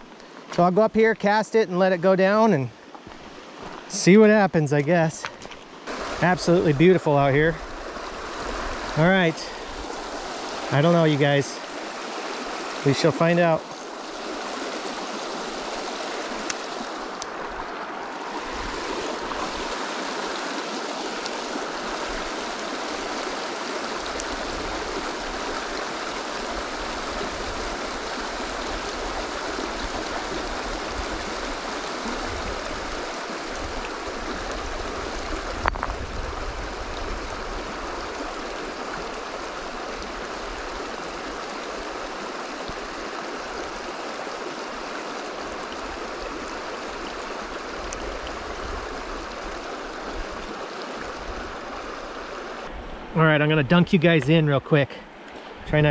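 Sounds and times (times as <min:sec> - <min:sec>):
river rushing over rocks: 0:03.0 - 0:53.1.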